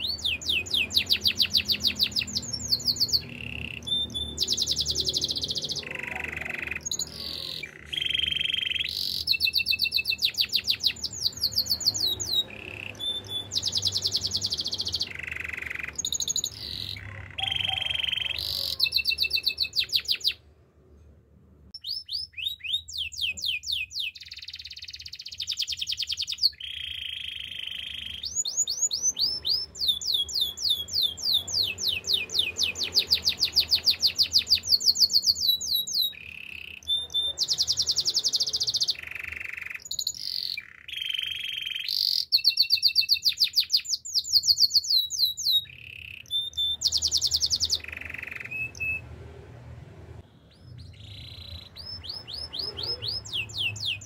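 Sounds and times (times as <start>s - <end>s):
canary singing trills: 0.0s - 20.5s, 21.8s - 49.4s, 50.2s - 54.0s.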